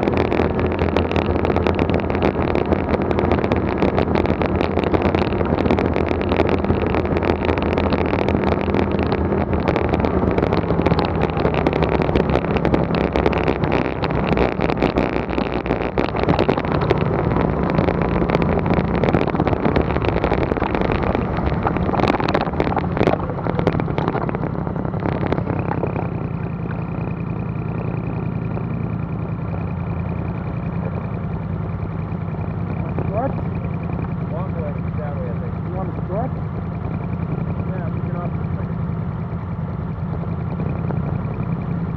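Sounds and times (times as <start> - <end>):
engine idling: 0.0 - 41.9
tyres on gravel: 0.0 - 41.9
vehicle engine running: 0.0 - 41.9.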